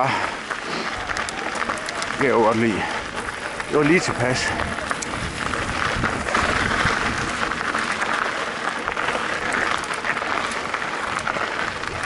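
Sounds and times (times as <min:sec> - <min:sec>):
bike tyres crackling on dirt: 0:00.0 - 0:12.0.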